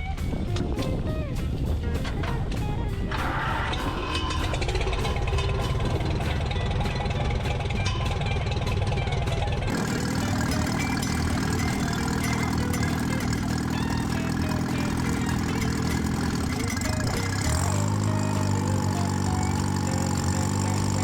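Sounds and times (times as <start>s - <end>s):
old tractor engines running: 0.0s - 21.0s.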